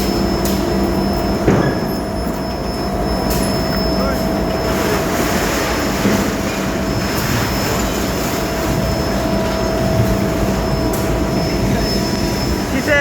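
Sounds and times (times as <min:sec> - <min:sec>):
loud machine hum: 0:00.0 - 0:13.0.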